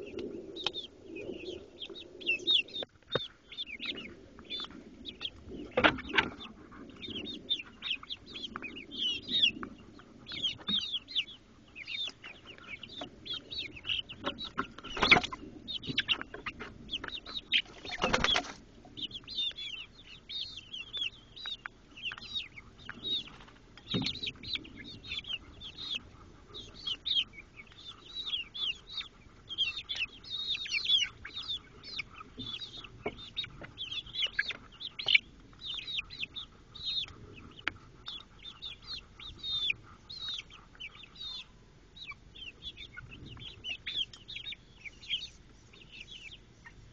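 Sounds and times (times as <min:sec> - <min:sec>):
hens chirping and peeping: 0:00.0 - 0:46.9.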